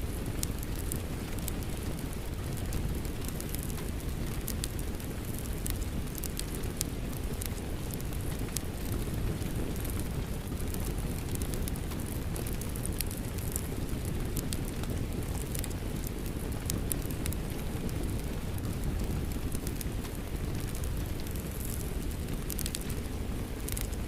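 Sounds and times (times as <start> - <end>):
constant low rumble: 0.0 - 24.0
fireplace crackling and popping: 0.0 - 24.0
steady rain: 0.0 - 24.0.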